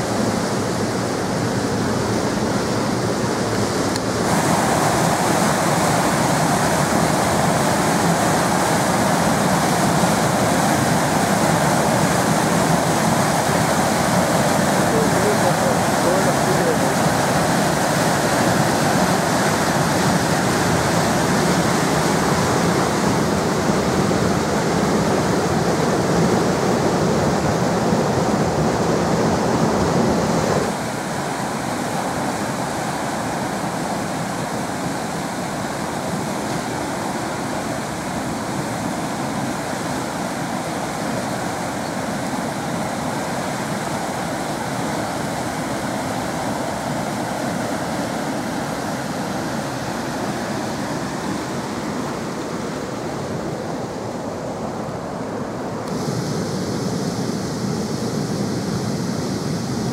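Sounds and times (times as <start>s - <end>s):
water rushing through spillway: 0.0s - 59.9s.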